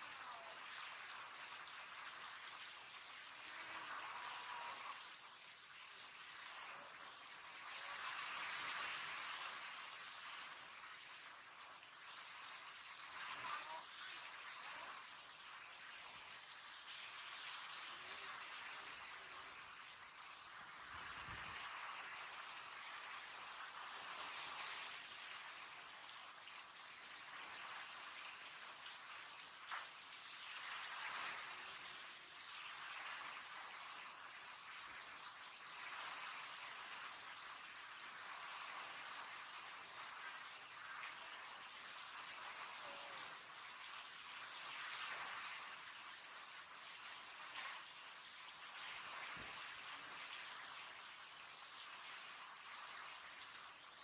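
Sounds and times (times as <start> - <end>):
heavy rain splashing: 0.0 - 53.3.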